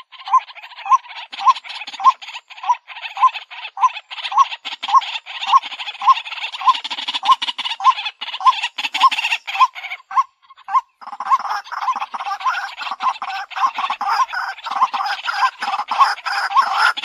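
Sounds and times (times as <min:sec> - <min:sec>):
bird harsh repeated call: 0:00.0 - 0:17.0.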